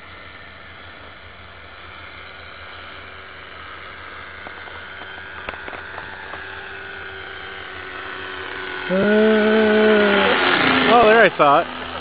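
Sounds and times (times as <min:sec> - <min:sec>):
model plane engine whine: 0:00.0 - 0:12.0.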